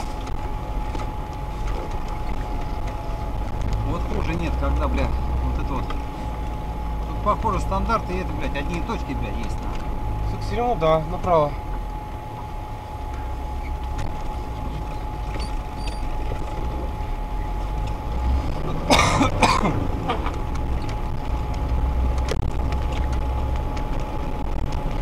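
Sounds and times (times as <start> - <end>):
engine drone: 0.0 - 25.0
faint steady whine: 0.0 - 25.0.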